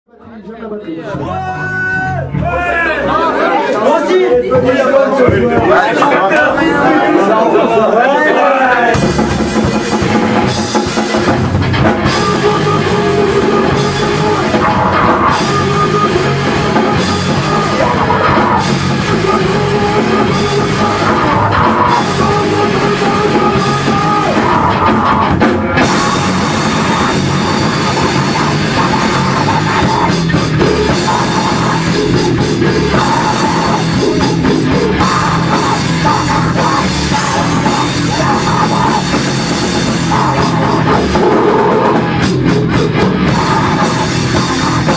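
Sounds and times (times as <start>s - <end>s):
drum kit beat: 4.4s - 6.9s, 8.9s - 44.9s
rock band playing live: 8.8s - 44.9s.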